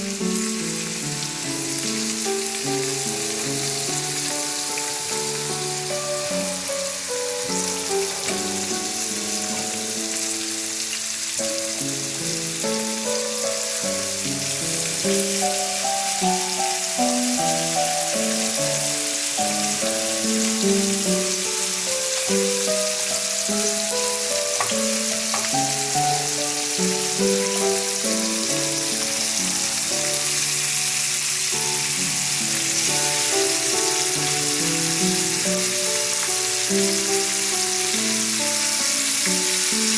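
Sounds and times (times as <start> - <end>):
background music: 0.0 - 39.9
meat sizzling in a pan: 0.0 - 39.9.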